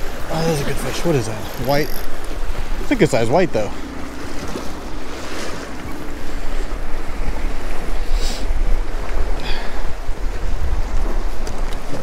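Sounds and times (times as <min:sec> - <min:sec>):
waves lapping against rocks: 0:00.0 - 0:12.0
wind buffeting microphone: 0:00.0 - 0:12.0.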